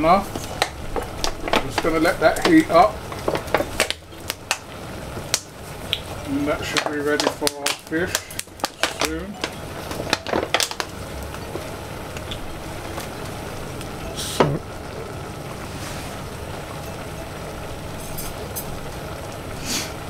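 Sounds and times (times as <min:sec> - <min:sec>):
pans hissing on stovetop: 0:00.0 - 0:20.0.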